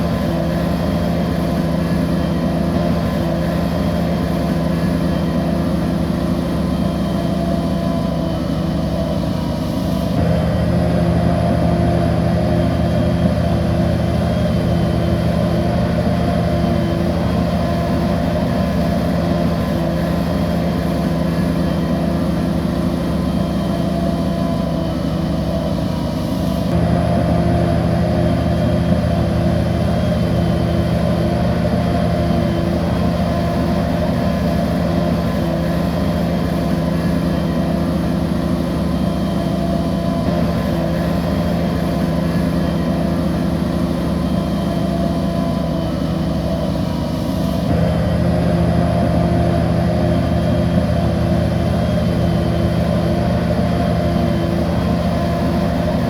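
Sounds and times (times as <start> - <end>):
diesel bulldozer engine running: 0.0 - 56.0.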